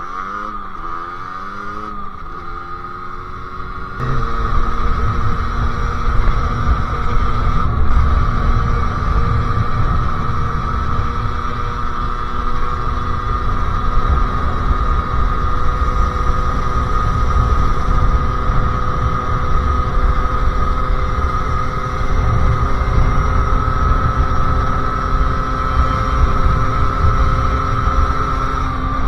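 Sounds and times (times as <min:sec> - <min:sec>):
two-stroke motorcycle engine: 0:00.0 - 0:29.0.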